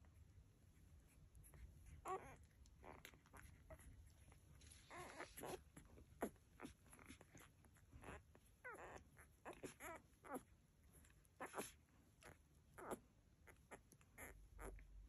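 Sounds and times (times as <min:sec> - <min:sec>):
puppies squeaking and whimpering: 0:00.9 - 0:15.0.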